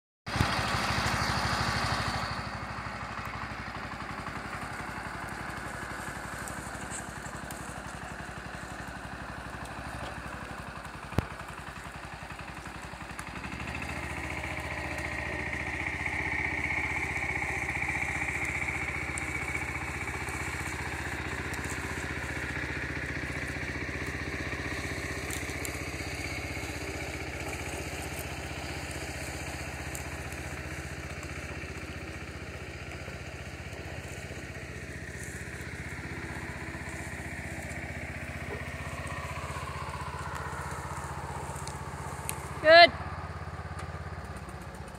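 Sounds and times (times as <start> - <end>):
garden tractor engine running: 0.3 - 44.9.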